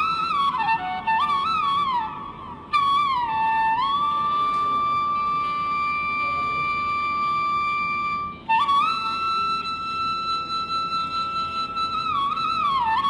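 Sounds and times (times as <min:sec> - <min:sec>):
melody of long held notes: 0:00.0 - 0:13.0.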